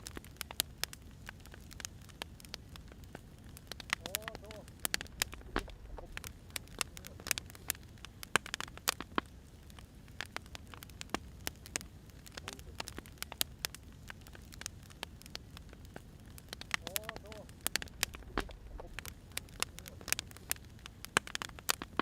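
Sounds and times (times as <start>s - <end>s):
firewood crackling and popping: 0.0s - 22.0s
low fire rumble: 0.0s - 22.0s.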